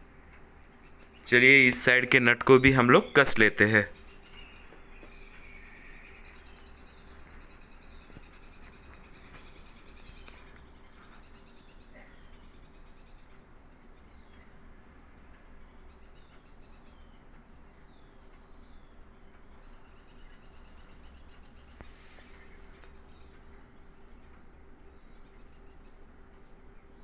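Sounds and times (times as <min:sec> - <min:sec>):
low steady hum: 0:00.0 - 0:27.0
small birds chirping: 0:00.0 - 0:27.0.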